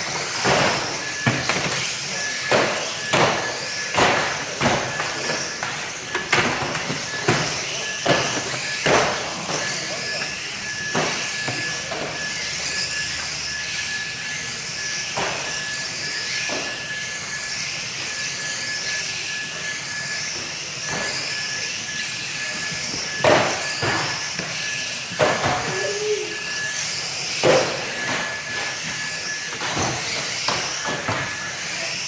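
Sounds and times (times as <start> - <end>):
electric toy car motors whining: 0.0 - 32.0.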